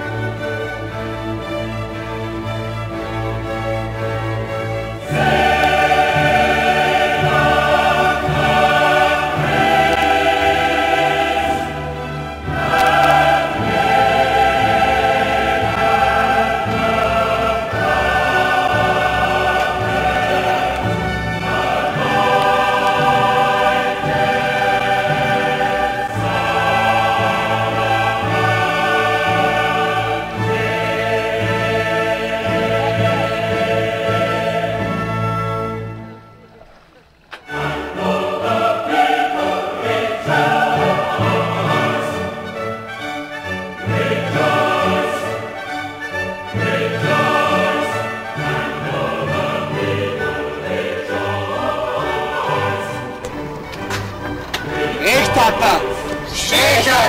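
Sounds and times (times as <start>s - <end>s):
choir singing with orchestra: 0.0s - 36.4s, 37.3s - 57.0s.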